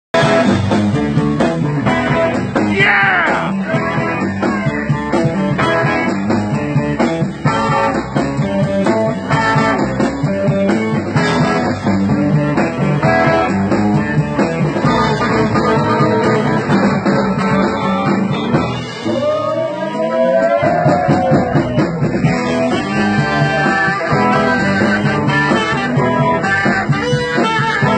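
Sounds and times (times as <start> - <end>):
live blues band: 0.2 - 27.9.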